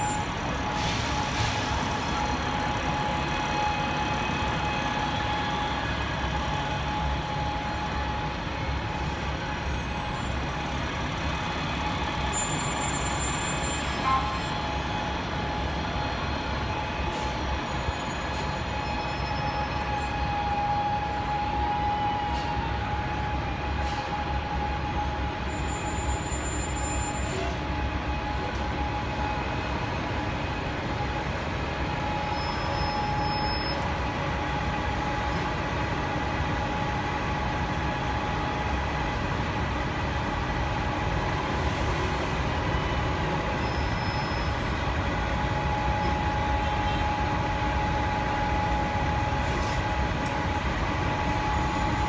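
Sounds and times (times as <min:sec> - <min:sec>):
bus engine running: 0:00.0 - 0:52.0
constant high whine: 0:00.0 - 0:52.0
traffic on a wet road: 0:00.0 - 0:52.0.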